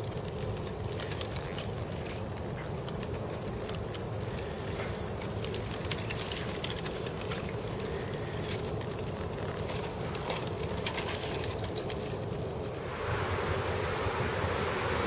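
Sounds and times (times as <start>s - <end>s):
ice crackling and clinking: 0.0s - 12.8s.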